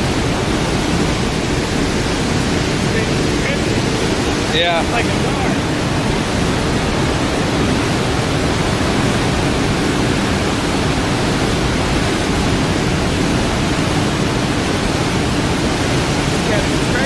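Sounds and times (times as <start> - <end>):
churning white water rushing: 0.0 - 17.0.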